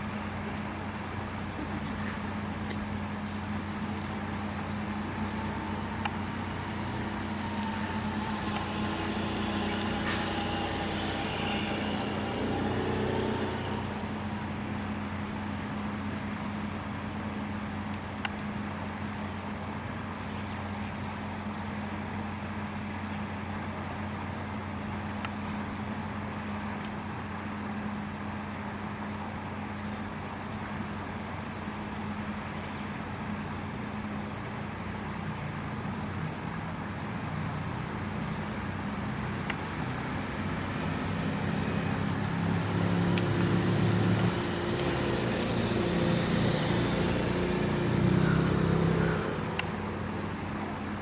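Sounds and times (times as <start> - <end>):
low mechanical hum: 0.0 - 51.0.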